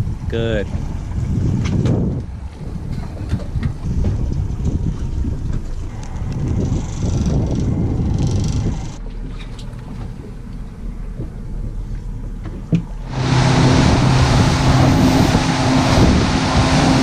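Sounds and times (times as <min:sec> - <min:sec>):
low rumble: 0:00.0 - 0:17.0
motorboat engine: 0:00.0 - 0:17.0
rush of water and wind: 0:00.0 - 0:17.0.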